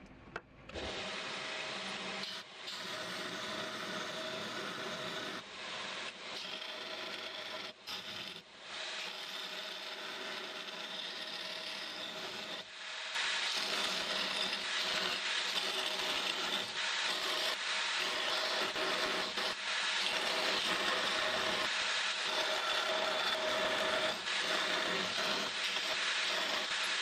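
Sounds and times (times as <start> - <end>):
belt grinder grinding steel: 0.7 - 27.0.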